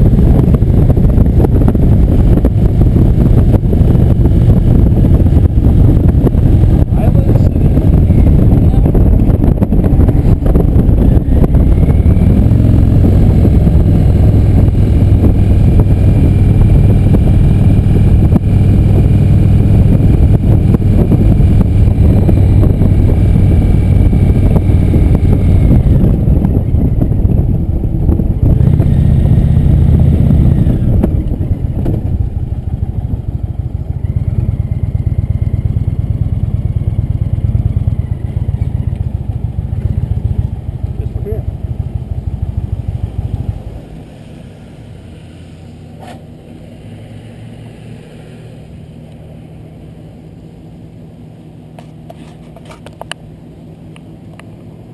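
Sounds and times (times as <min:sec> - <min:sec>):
motorcycle engine running: 0:00.0 - 0:46.3.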